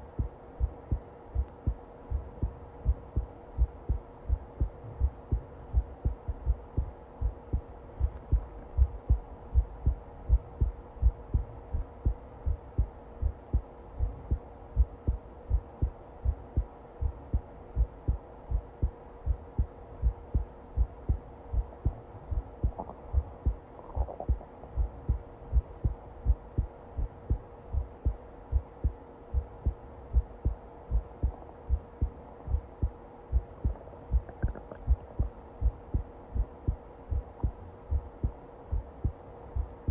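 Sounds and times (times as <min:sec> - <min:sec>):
faint steady hum: 0:00.0 - 0:39.9
heartbeat thumps: 0:00.0 - 0:39.9.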